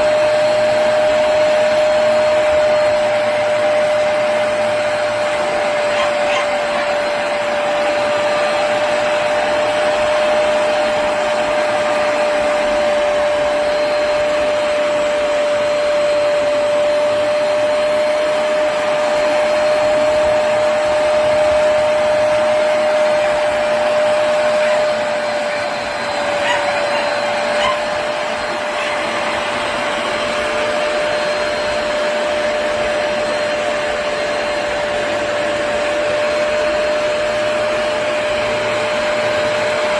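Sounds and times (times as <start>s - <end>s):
carpet cleaner motor and suction: 0.0s - 39.9s.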